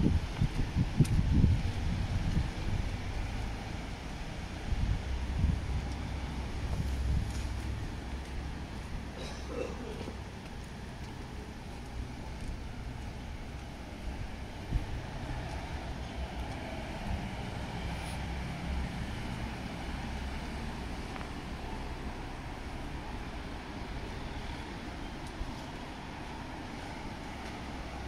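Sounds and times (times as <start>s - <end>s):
city street traffic rumble: 0.0s - 28.0s.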